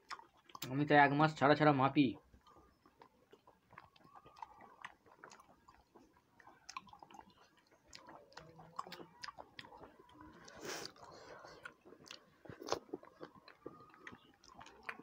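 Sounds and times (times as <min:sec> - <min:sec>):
faint chewing of food: 0:00.0 - 0:15.0
mouth clicks: 0:02.4 - 0:15.0.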